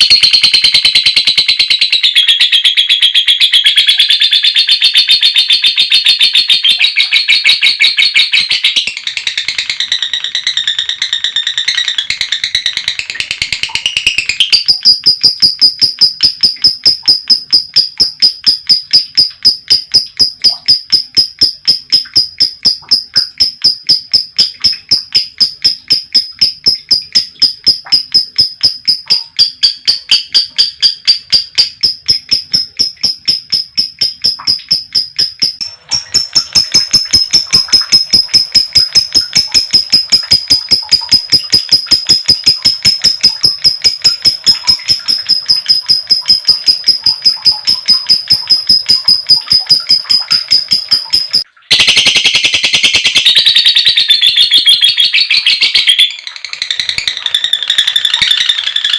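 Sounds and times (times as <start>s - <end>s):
lovebird chattering shrill chirps: 0.0s - 58.9s.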